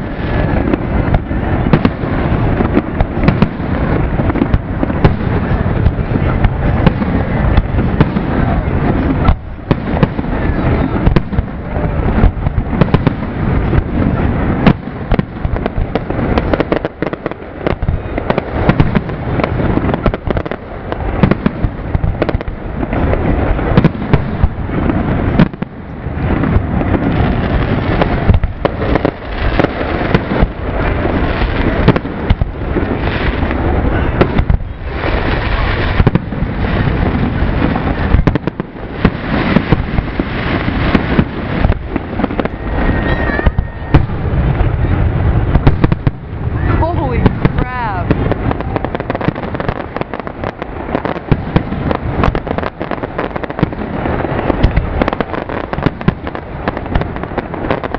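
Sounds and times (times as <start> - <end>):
fireworks booming and bursting: 0.0 - 57.9.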